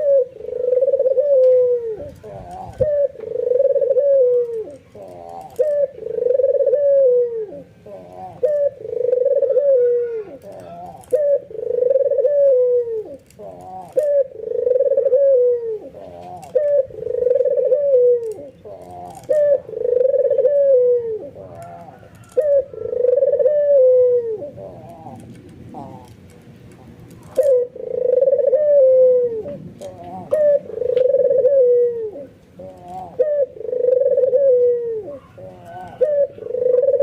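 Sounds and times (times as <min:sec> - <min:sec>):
dove cooing: 0:00.0 - 0:37.0.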